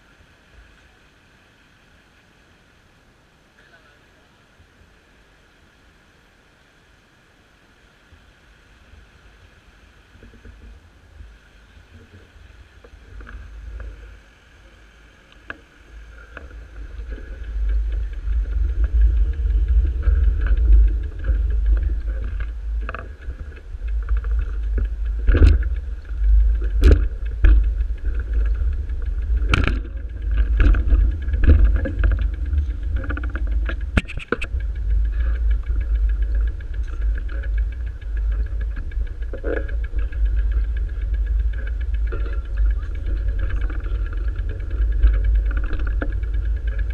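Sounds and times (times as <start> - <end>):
handheld camera rumble: 8.8 - 46.9.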